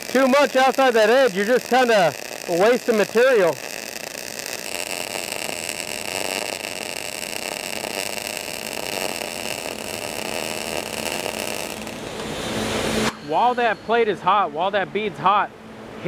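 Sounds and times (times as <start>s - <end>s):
welding arc hissing: 0.0s - 14.4s.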